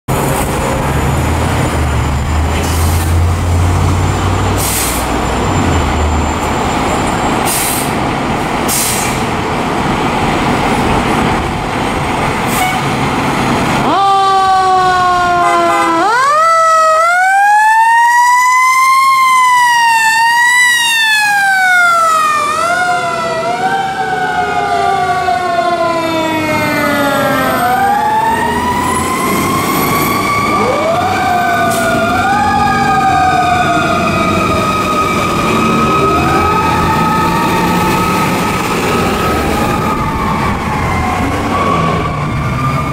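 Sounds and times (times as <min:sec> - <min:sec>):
fire truck siren sweeping: 0:00.1 - 0:42.9
truck engines rumbling: 0:00.1 - 0:42.9.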